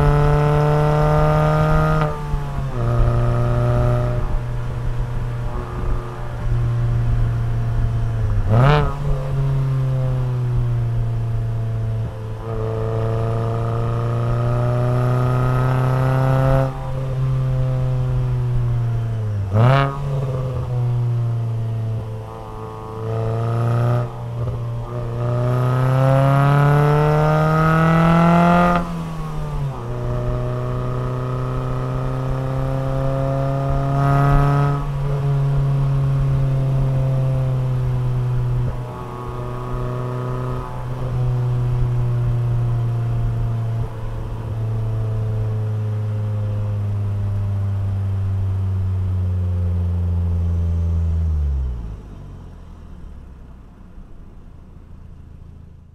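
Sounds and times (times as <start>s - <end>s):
car engine revving through gears: 0.0s - 53.4s.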